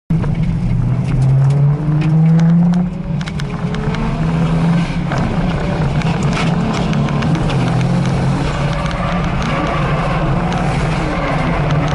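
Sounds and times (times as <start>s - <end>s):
car engines revving: 0.1s - 11.9s.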